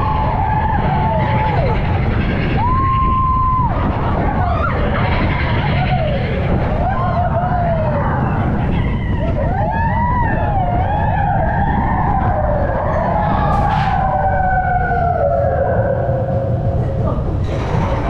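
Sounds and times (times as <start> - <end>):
riders whooping and yelling: 0.0 - 18.0
roller coaster cars rumbling: 0.0 - 18.0.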